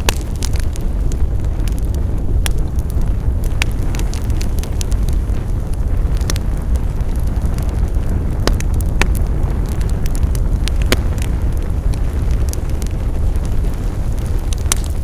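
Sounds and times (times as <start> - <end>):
fire pops and ticks: 0.0 - 15.0
low rumble of burning wood: 0.0 - 15.0.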